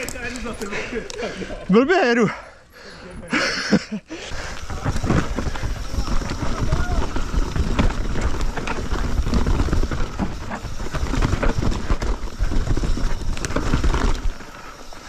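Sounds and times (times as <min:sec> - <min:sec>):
bike rattling and knocking: 0:00.0 - 0:01.5, 0:04.3 - 0:15.0
tyres rumbling on trail: 0:00.0 - 0:15.0.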